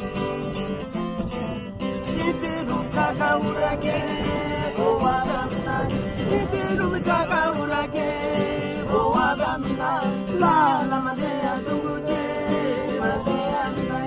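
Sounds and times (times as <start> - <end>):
guitar accompaniment: 0.0 - 14.0
person singing: 2.0 - 14.0.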